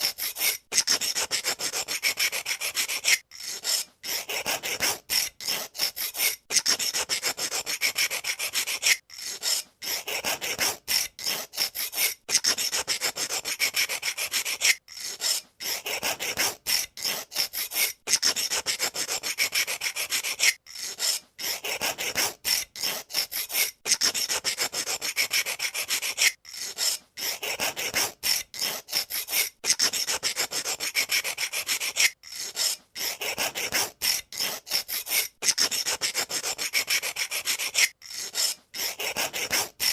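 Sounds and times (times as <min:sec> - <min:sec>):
pencil sharpener rasping: 0:00.0 - 0:39.9.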